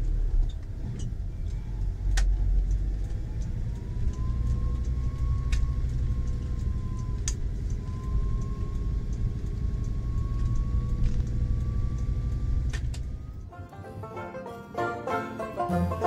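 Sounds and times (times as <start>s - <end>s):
vehicle cabin road rumble: 0.0s - 14.6s.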